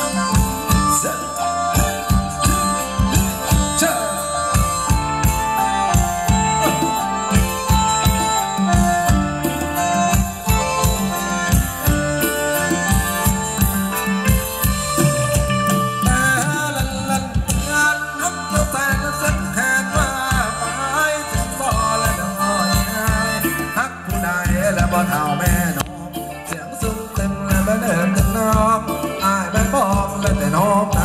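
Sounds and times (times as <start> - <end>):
wavering high melody: 0.0 - 25.3
folk dance band music: 0.0 - 31.0.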